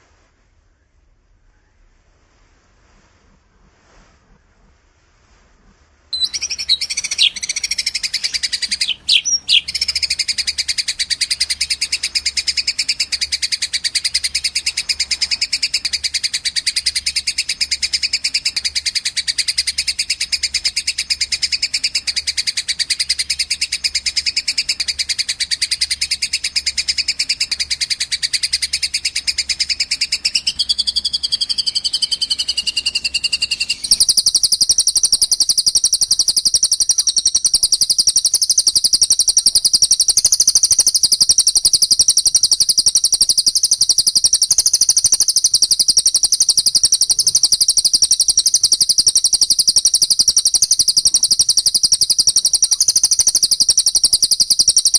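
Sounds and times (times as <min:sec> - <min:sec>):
high-pitched bird call: 0:06.2 - 0:54.9
songbird fast trill: 0:06.2 - 0:54.9.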